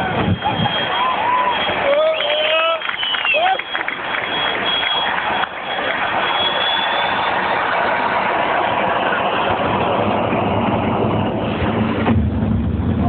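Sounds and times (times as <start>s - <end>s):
high-pitched engine whine: 0.0s - 13.0s
jet engine roaring: 0.0s - 13.0s.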